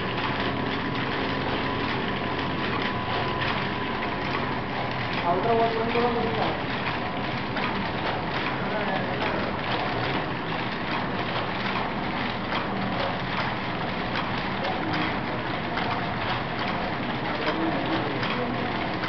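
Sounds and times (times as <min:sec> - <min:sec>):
steady rush of machine noise: 0:00.0 - 0:19.0
washing machine clicking and clattering: 0:00.0 - 0:19.0.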